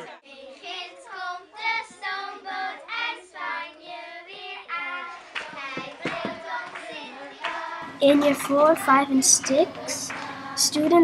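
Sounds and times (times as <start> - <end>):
children singing together: 0.0 - 11.0.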